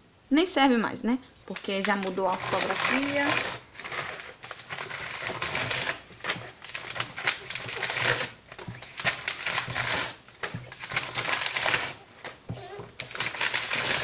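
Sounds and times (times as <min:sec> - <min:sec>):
paper tearing and crumpling: 0:01.5 - 0:14.0.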